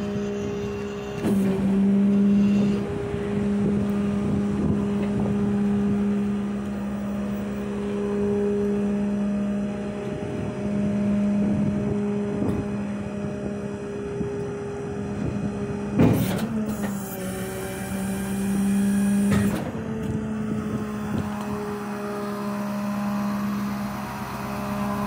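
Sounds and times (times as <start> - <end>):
diesel engine drone: 0.0 - 25.0
hydraulic bed system running: 0.0 - 25.0.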